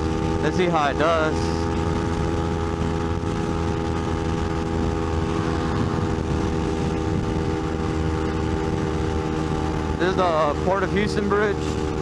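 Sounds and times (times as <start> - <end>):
motorcycle engine running: 0.0 - 12.0
road noise rushing: 0.0 - 12.0.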